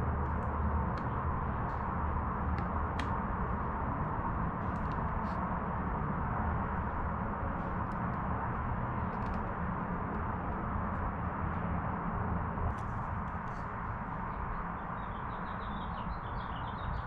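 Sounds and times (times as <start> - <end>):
steady rushing noise: 0.0 - 14.9
low hum: 0.0 - 15.4.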